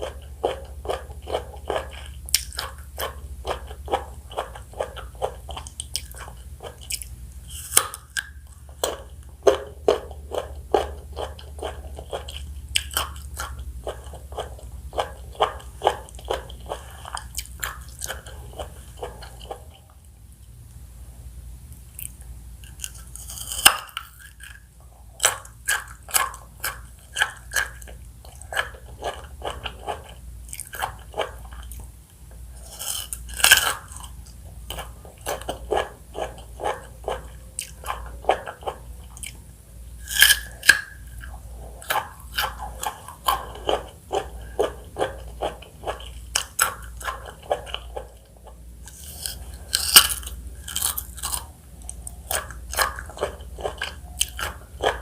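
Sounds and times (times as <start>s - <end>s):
biting fresh fruit: 0.0s - 20.0s, 21.9s - 55.0s
chewing: 0.0s - 20.1s, 21.8s - 55.0s.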